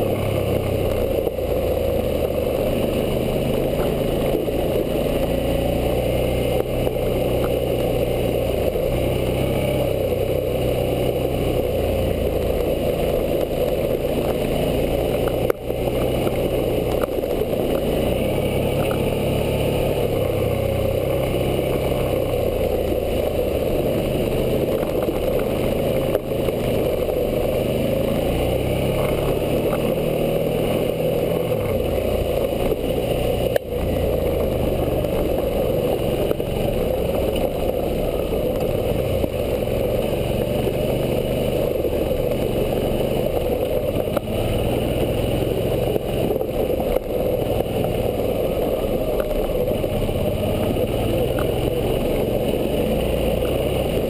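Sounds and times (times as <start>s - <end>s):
motorcycle engine running: 0.0s - 54.0s
steady rushing noise: 0.0s - 54.0s.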